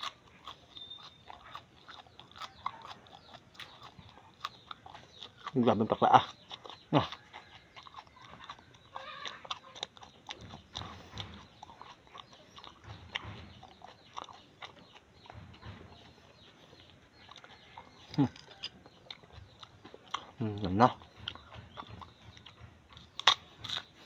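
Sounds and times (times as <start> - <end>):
person chewing with mouth open: 0.0 - 24.0.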